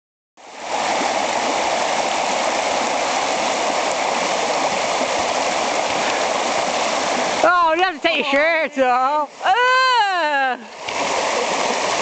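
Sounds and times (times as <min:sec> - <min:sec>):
river rushing over stones: 0:00.4 - 0:12.0.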